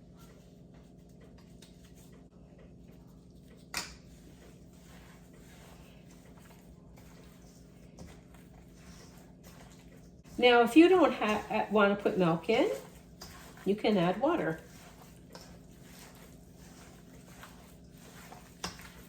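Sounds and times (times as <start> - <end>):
meat squishing being kneaded: 0.0 - 19.0.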